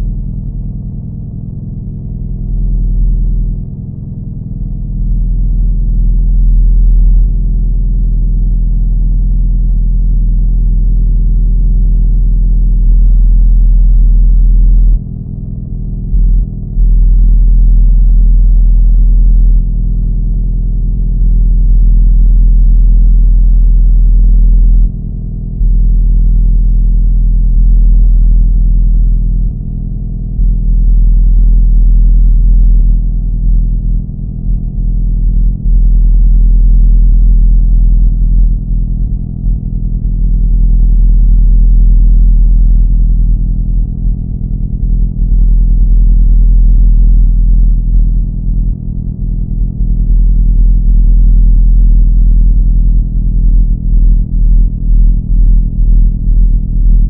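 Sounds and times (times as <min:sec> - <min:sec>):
deep rumbling drone: 0:00.0 - 0:57.0.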